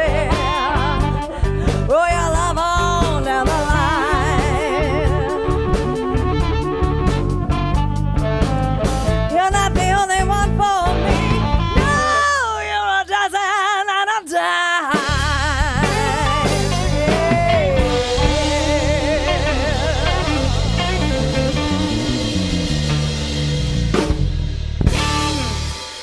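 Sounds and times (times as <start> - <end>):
lead guitar bending with vibrato: 0.0 - 12.7, 15.8 - 26.0
live blues band playing: 0.0 - 13.2, 14.9 - 26.0.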